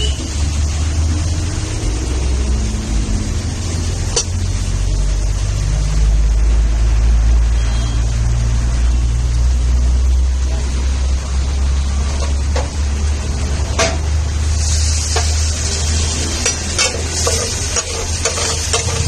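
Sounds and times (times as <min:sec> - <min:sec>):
food sizzling on a hot pan: 0:00.0 - 0:19.0.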